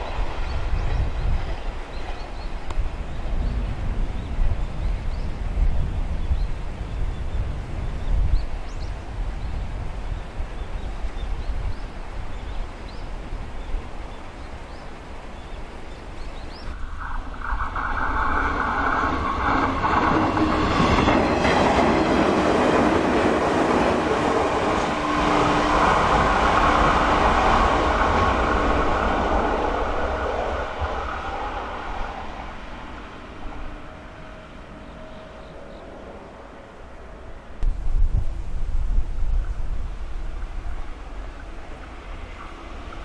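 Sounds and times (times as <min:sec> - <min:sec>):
electric train passing: 0:00.0 - 0:43.0.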